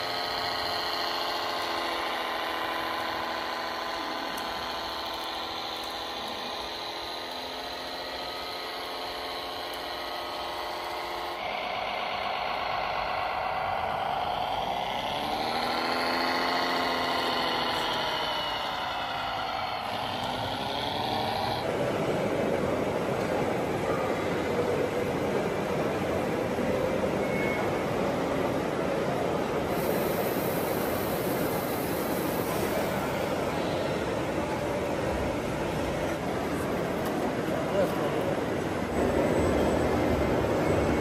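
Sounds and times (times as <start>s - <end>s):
model vehicle drive whine: 0.0s - 41.0s.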